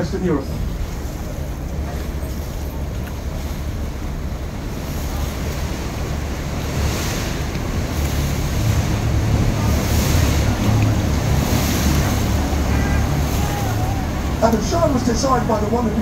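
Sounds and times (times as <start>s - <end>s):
boat engine hum: 0.0s - 16.0s
water rushing along hull: 0.0s - 16.0s.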